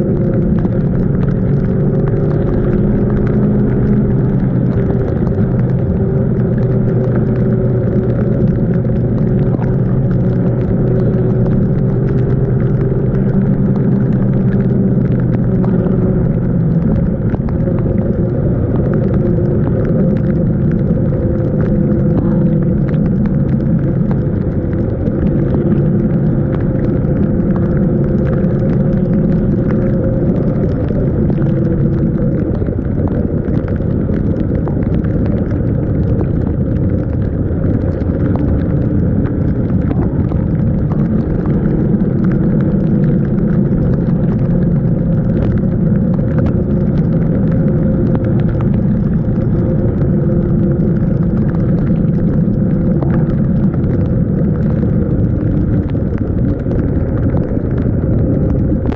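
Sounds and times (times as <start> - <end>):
low rumble: 0.0 - 58.9.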